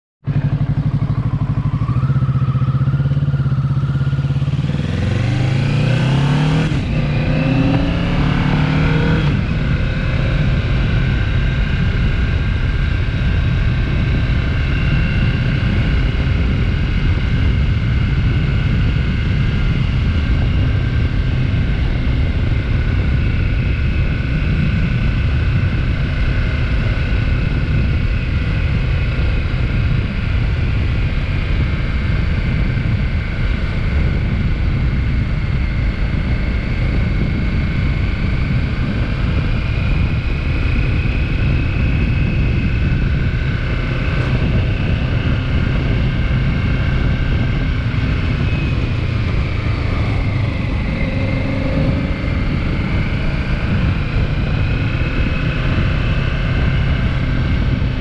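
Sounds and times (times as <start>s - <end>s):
motorcycle engine accelerating: 0.2s - 58.0s
wind rushing: 0.8s - 25.9s, 34.1s - 58.0s.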